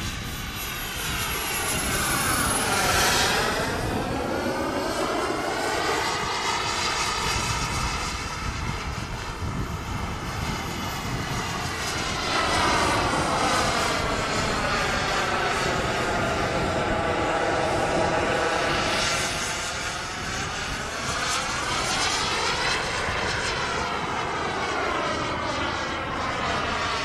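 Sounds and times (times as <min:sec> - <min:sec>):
model jet engine whine: 0:00.0 - 0:27.0.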